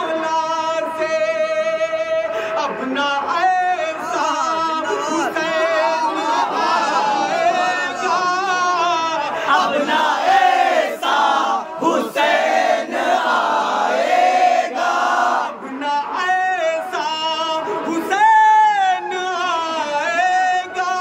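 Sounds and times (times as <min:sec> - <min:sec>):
male voices chanting: 0:02.7 - 0:21.0.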